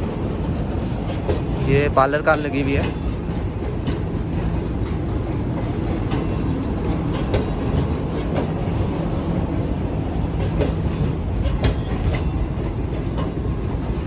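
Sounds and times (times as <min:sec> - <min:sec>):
train coaches rumbling: 0:00.0 - 0:14.0
wheels clicking over rail joints: 0:00.1 - 0:14.0.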